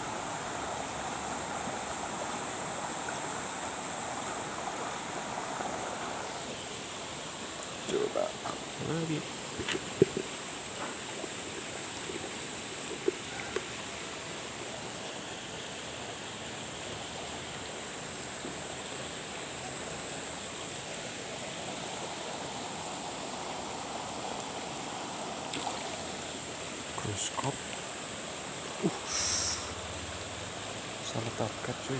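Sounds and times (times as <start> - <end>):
running water rushing: 0.0 - 31.9.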